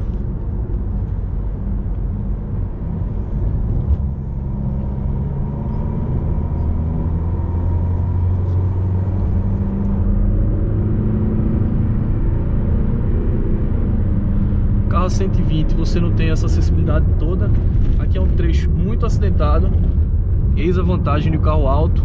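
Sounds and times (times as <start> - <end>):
low engine drone: 0.0 - 22.0
road and tyre rumble: 0.0 - 22.0.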